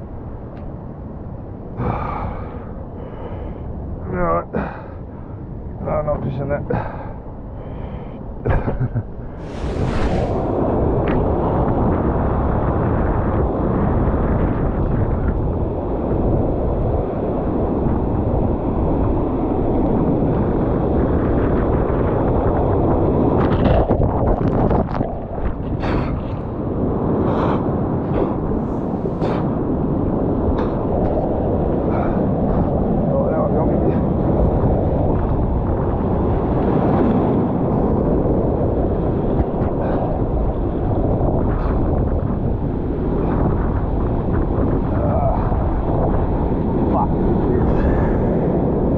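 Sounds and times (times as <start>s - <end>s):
heavy surf against rocks: 0.0s - 48.9s
wind buffeting microphone: 0.0s - 48.9s.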